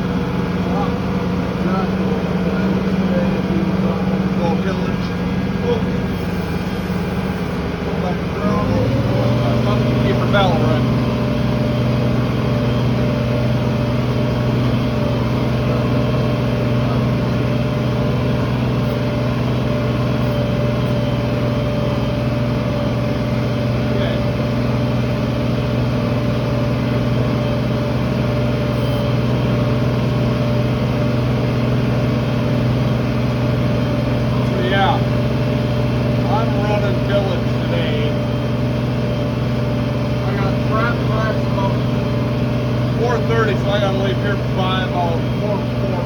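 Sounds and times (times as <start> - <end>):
tractor engine droning: 0.0 - 46.0.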